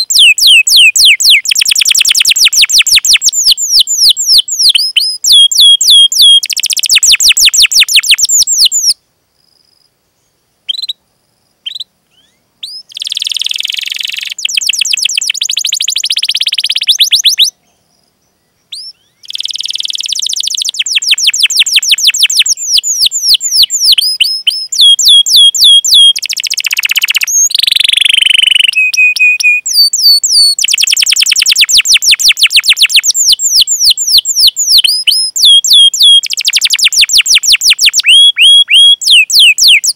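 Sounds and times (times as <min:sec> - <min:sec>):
canary singing: 0:00.0 - 0:09.0, 0:11.6 - 0:17.7, 0:18.7 - 0:39.9.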